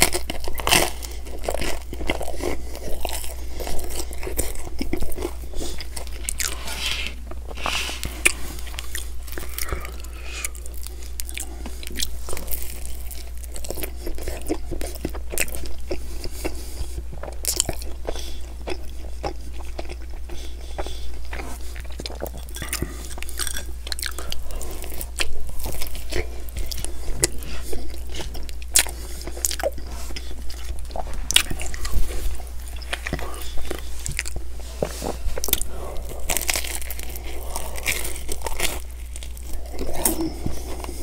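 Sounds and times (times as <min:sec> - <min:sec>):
man chewing pizza: 0:00.0 - 0:41.0.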